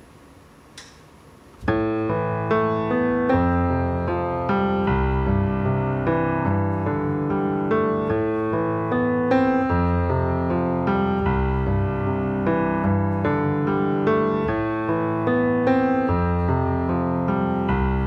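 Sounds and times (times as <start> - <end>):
solo grand piano: 1.6 - 18.0.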